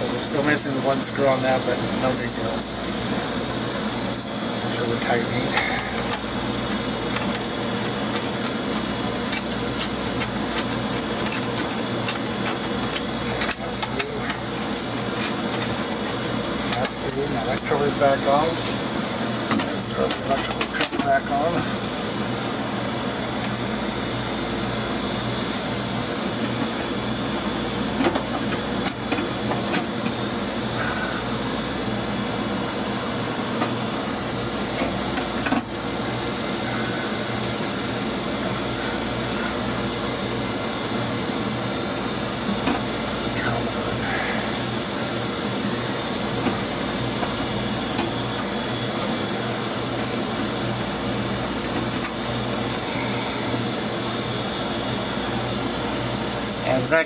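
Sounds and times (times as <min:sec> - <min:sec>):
laundry machinery humming: 0:00.0 - 0:57.0.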